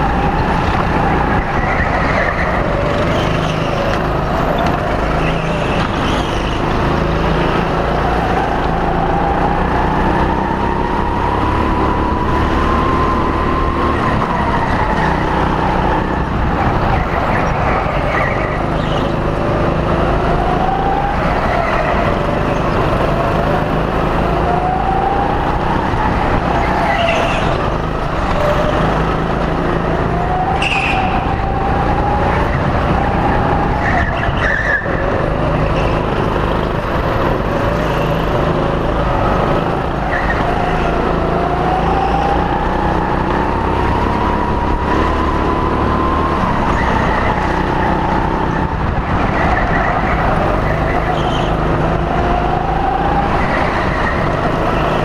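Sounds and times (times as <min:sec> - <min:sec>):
tyre and wind noise: 0:00.0 - 0:55.0.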